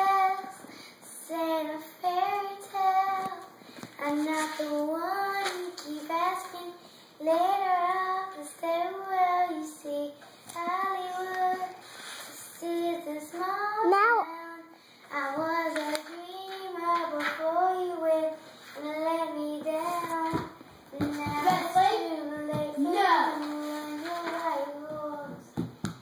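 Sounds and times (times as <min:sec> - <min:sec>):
girl singing unaccompanied: 0:00.0 - 0:26.0.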